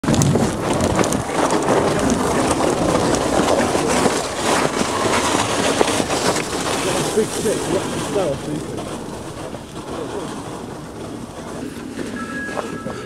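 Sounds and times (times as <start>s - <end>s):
plastic sled scraping on ice: 0.0s - 13.0s.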